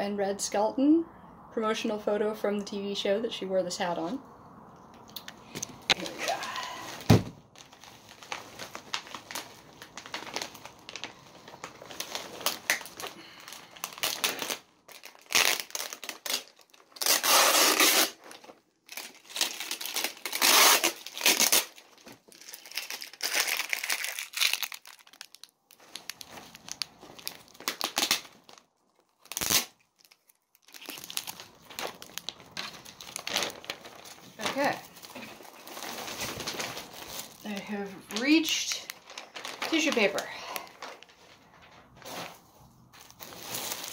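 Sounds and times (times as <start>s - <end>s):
plastic wrap crinkling: 5.5s - 43.9s.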